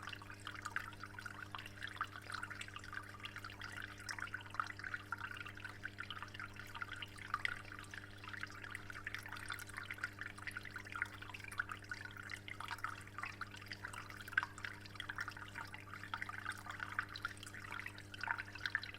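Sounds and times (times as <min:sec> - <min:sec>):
water trickling and splashing: 0:00.0 - 0:18.9.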